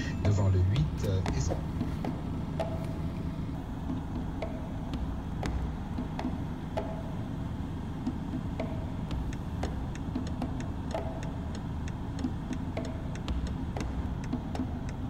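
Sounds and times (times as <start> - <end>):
car engine idling: 0.0 - 15.0
light regular ticking: 0.0 - 15.0.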